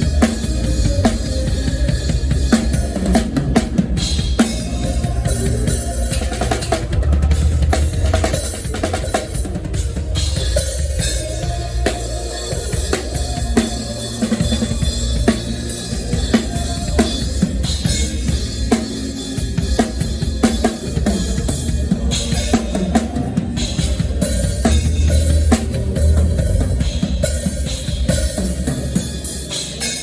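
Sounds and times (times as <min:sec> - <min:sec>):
drum kit playing a groove: 0:00.0 - 0:30.0
sustained band instruments: 0:00.0 - 0:30.0.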